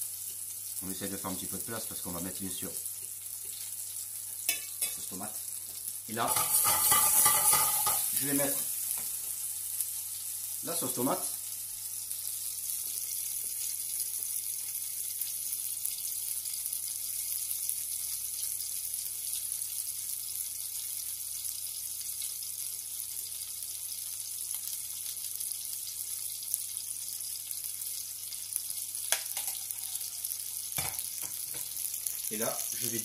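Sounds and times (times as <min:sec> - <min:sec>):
tomatoes sizzling in a pan: 0:00.0 - 0:33.0.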